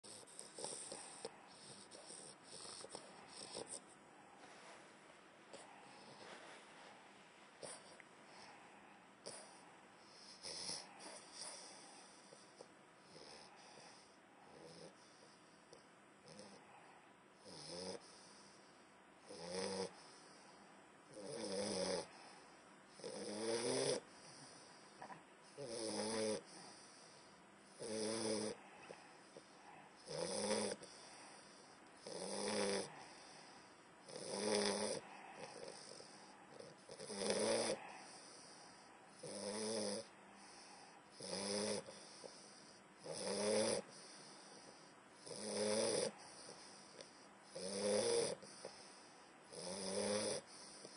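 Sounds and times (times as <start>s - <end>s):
dog snoring: 0.0s - 4.8s, 5.5s - 6.9s, 7.6s - 50.9s
dog breathing: 0.0s - 50.9s.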